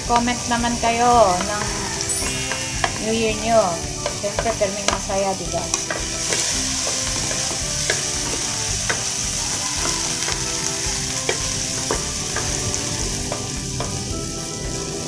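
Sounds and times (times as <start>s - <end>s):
garlic sizzling in hot oil: 0.0s - 15.0s
wooden spatula knocking a pan: 2.8s - 14.9s.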